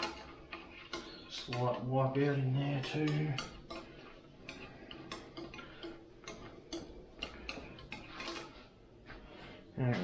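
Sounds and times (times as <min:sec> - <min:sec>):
light clicks and scrapes: 0:00.0 - 0:10.0.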